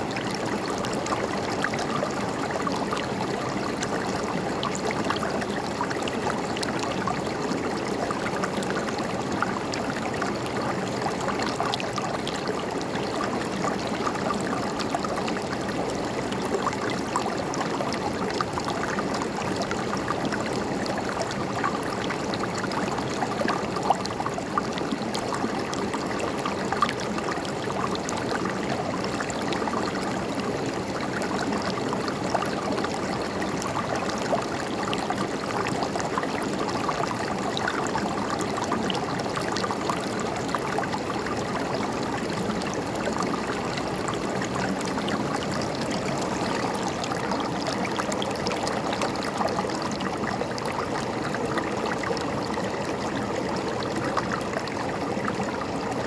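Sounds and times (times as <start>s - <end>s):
stream gurgling over rocks: 0.0s - 56.0s.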